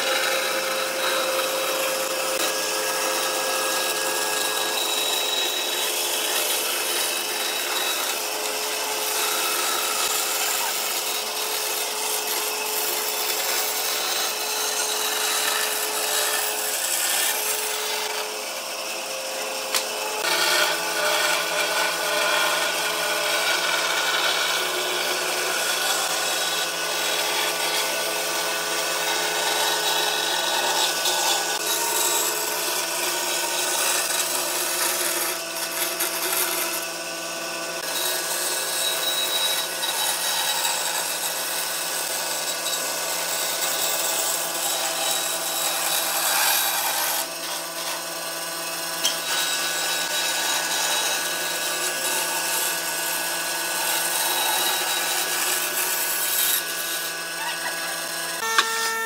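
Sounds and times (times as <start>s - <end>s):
bandsaw motor hum: 0.0s - 59.0s.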